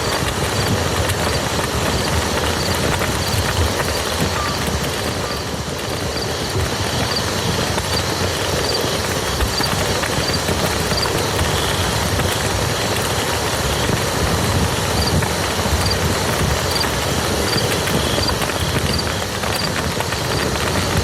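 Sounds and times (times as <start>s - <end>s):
rain pattering on a field: 0.0s - 21.0s.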